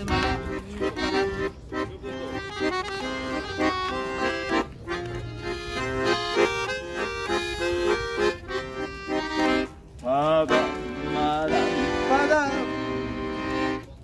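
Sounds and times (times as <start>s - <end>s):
piano accordion playing tune: 0.0s - 14.0s.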